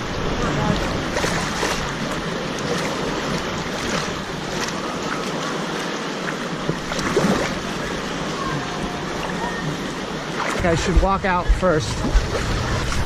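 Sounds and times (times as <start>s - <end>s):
water washing and sloshing: 0.0s - 13.0s.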